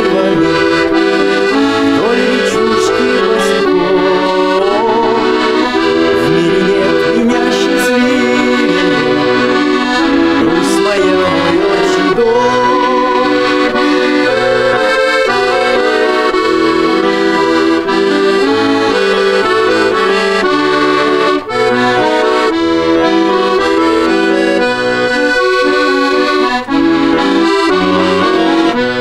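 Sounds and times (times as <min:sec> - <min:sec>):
accordion folk melody: 0:00.0 - 0:29.0.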